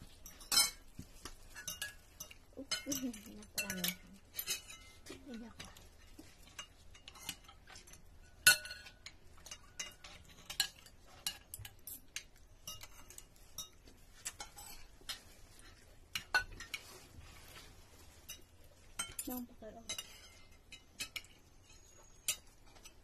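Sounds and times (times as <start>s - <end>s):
cutlery clinking on plates: 0.0s - 23.0s.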